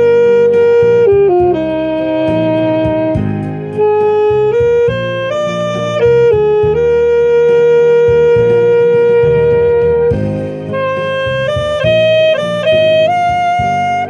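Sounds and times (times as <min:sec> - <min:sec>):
saxophone ballad melody: 0:00.0 - 0:14.0.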